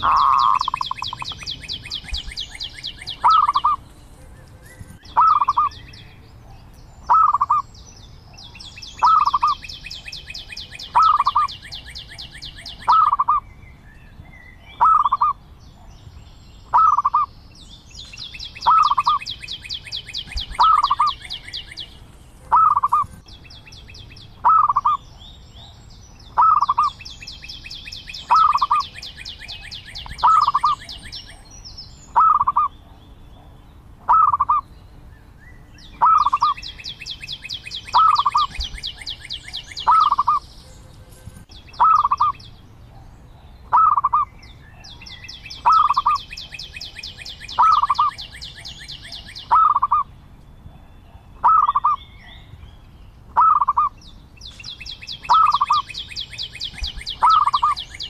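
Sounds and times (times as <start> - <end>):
high rapid bird trill: 0.0 - 6.3, 6.9 - 13.5, 14.7 - 15.9, 16.6 - 34.7, 35.6 - 42.6, 43.6 - 50.1, 51.0 - 52.6, 53.3 - 58.0
dove calling: 0.0 - 13.5, 14.7 - 17.4, 18.0 - 34.7, 35.5 - 50.1, 50.7 - 52.6, 53.3 - 58.0.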